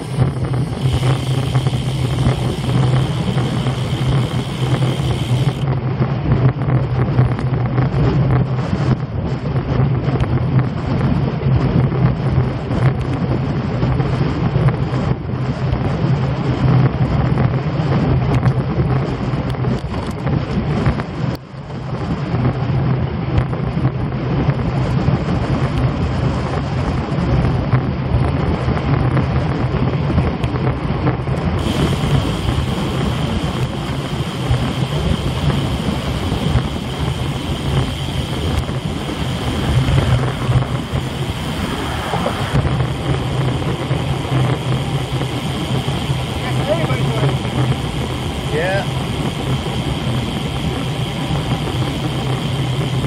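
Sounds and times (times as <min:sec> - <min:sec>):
road and tyre noise: 0:00.0 - 0:53.0
steady high whine: 0:00.0 - 0:53.0
wind buffeting microphone: 0:00.0 - 0:53.0.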